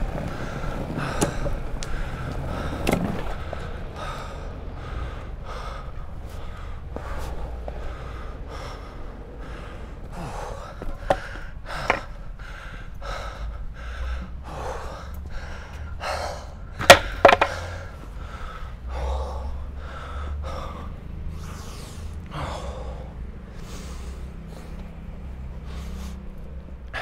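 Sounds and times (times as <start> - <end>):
longboard wheels rolling on pavement: 0.0 - 27.0
person panting heavily: 0.0 - 27.0.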